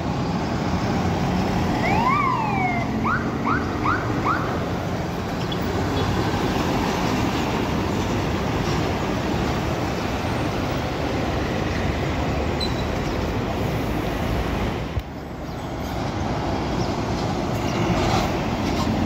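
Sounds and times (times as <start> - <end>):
bus engines: 0.0 - 19.0
street traffic: 0.0 - 19.0.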